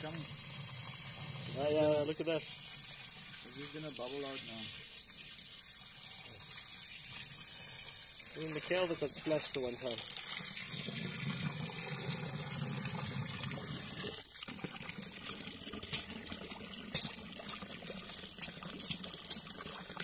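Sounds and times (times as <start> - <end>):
water dripping and splashing: 0.0 - 20.0
water gushing through drain: 0.0 - 20.0.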